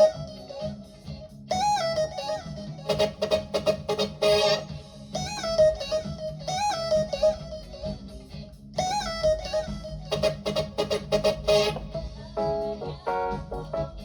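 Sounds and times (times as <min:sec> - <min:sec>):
synthesizer lead melody: 0:00.0 - 0:00.6, 0:01.5 - 0:07.9, 0:08.8 - 0:14.0.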